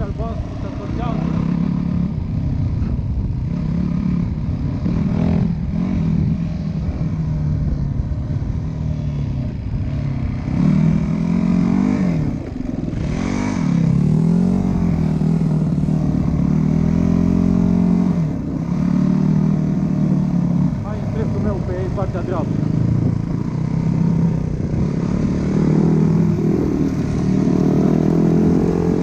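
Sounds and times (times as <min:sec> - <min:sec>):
dirt bike engine revving: 0:00.0 - 0:07.6, 0:09.8 - 0:29.0.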